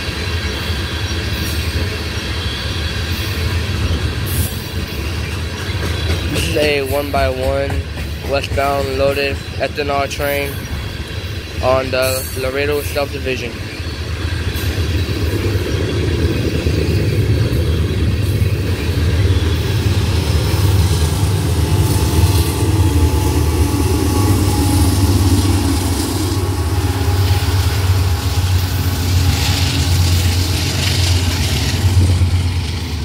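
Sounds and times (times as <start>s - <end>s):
low diesel engine drone: 0.0s - 33.0s
tank cars rolling on rails: 0.0s - 33.0s.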